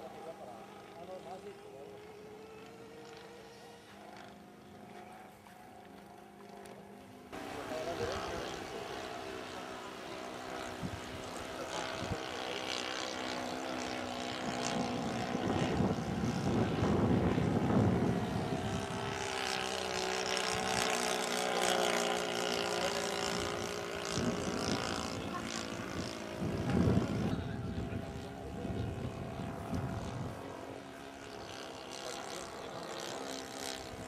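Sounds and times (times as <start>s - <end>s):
model airplane engine droning: 0.0s - 34.0s.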